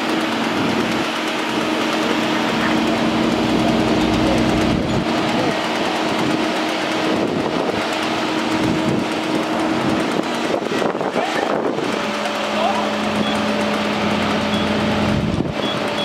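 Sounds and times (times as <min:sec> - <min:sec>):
fire truck engine running: 0:00.0 - 0:16.0.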